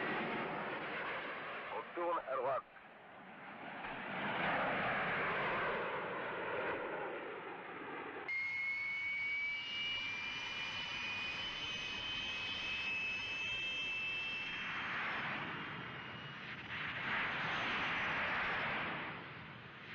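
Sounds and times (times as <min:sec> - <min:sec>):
jet engine whistling whine: 0:00.0 - 0:19.9.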